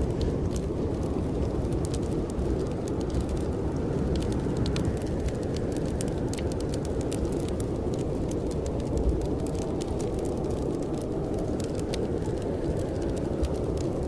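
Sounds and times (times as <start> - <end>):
blizzard wind blowing: 0.0 - 14.0
wood fire crackling: 0.0 - 14.0.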